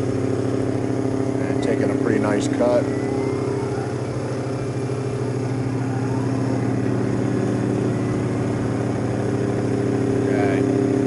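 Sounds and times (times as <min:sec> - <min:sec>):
end mill cutting metal: 0:00.0 - 0:11.0
milling machine hum: 0:00.0 - 0:11.0.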